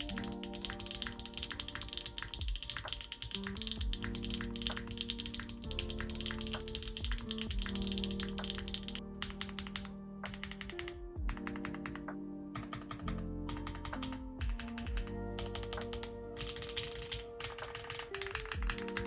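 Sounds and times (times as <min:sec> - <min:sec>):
background music: 0:00.0 - 0:19.0
mechanical keyboard typing: 0:00.0 - 0:19.0.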